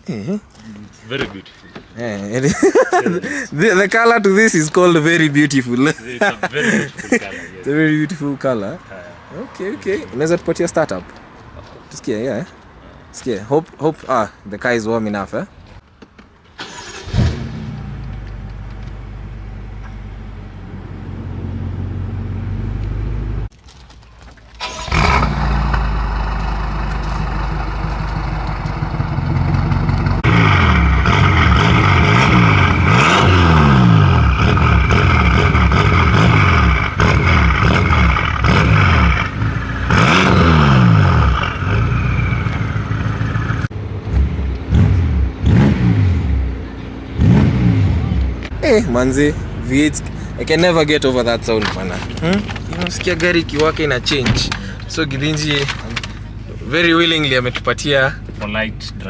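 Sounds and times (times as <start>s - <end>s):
car engine starting: 0.0s - 14.4s, 15.6s - 59.0s
car engine revving: 2.0s - 12.4s, 16.6s - 23.5s, 24.6s - 59.0s.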